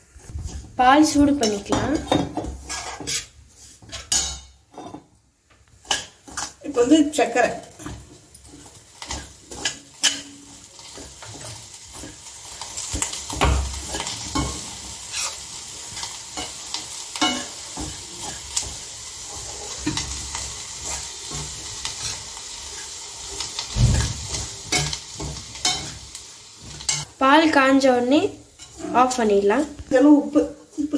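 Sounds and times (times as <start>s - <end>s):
metal spoon scraping a pan: 0.2s - 5.1s, 5.8s - 27.1s, 28.5s - 29.9s.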